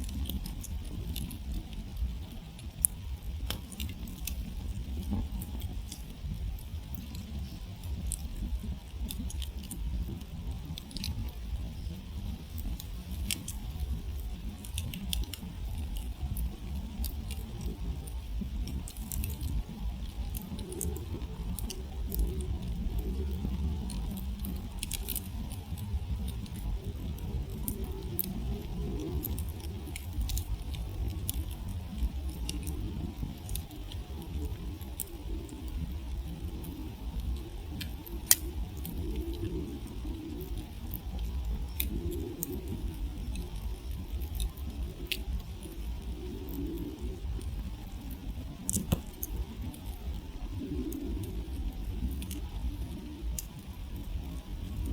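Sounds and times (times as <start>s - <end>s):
campfire crackling and popping: 0.0s - 54.9s
low steady rumble: 0.0s - 54.9s.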